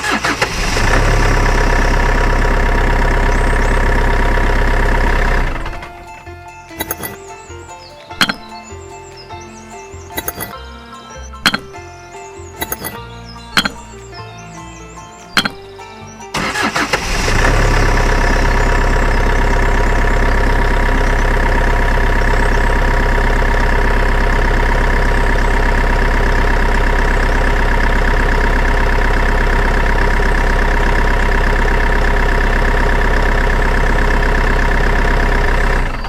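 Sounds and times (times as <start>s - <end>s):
engine idling: 0.0s - 10.6s, 11.2s - 36.0s.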